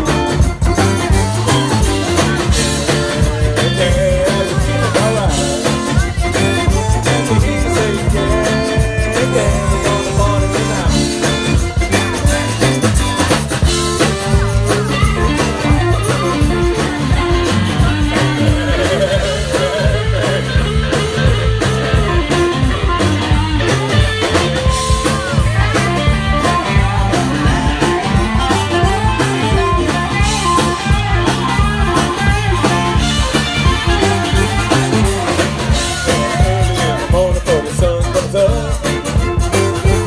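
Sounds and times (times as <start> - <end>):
drum kit beat: 0.0 - 40.0
electric guitars: 0.0 - 40.0.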